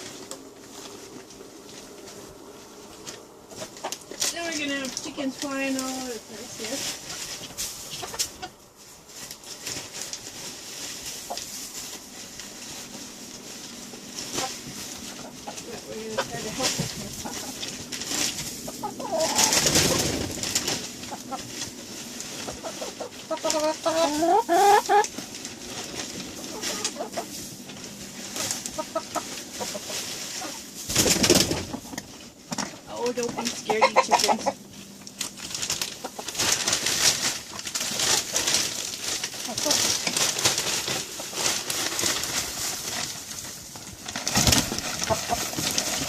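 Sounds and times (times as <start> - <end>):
steady rustling: 0.0 - 46.0
hens clucking: 0.1 - 46.0.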